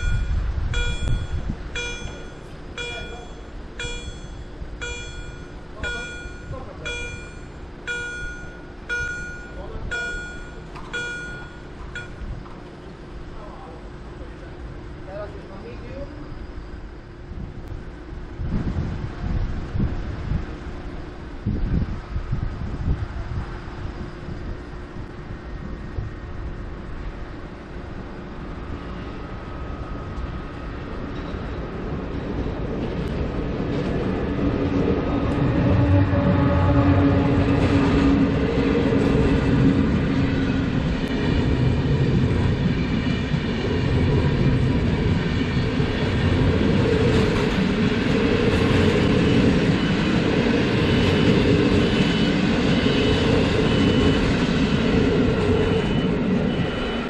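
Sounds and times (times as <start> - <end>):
passing train rumble: 0.0 - 57.0
train wheel noise: 0.0 - 57.0.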